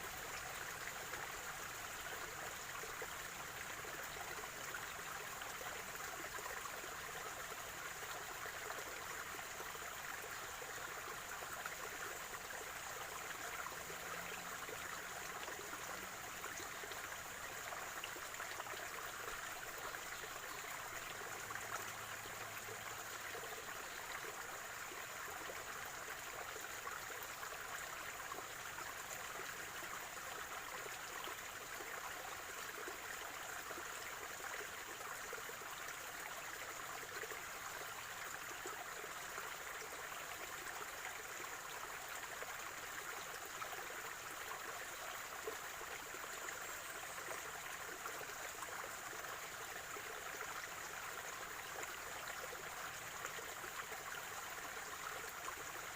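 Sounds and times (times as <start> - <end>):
stream gurgling trickle: 0.0 - 55.9.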